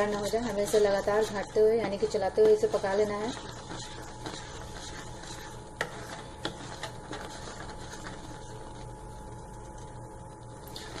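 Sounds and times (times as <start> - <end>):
wooden spatula scraping a pan: 0.0 - 8.9
steady low hum: 0.0 - 11.0.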